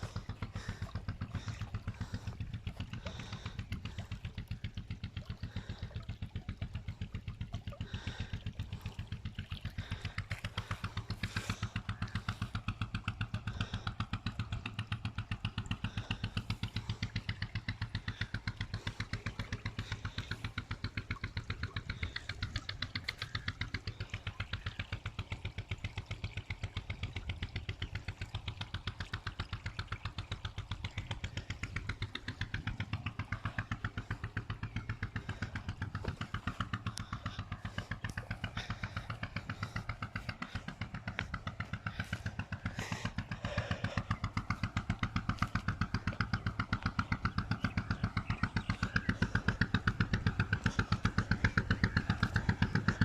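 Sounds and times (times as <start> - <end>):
engine with thudding beat: 0.0 - 53.0.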